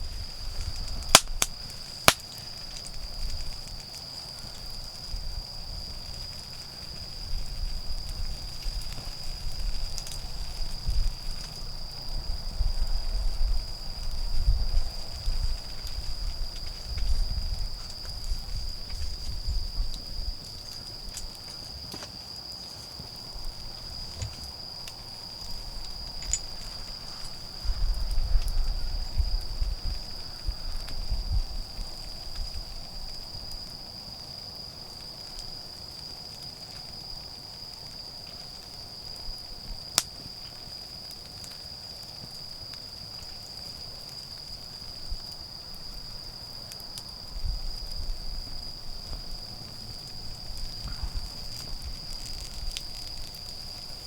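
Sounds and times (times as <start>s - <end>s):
insects trilling: 0.0s - 54.0s
wood fire crackling and popping: 0.0s - 54.0s.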